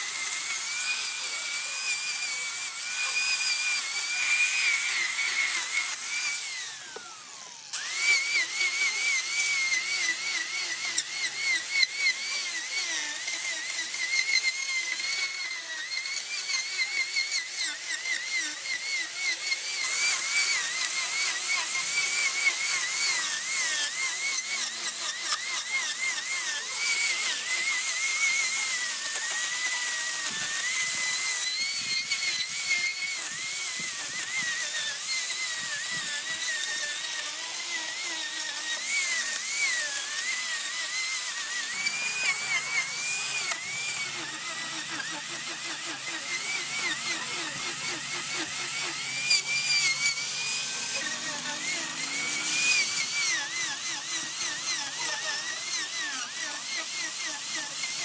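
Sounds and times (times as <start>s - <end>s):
power tool cutting wood: 0.0s - 58.0s.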